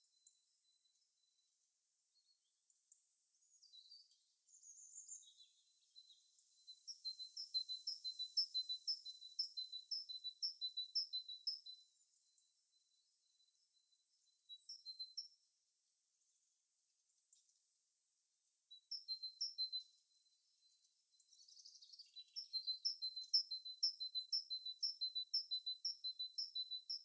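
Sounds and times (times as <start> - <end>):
songbird chirping: 0.0 - 17.9, 18.6 - 27.0.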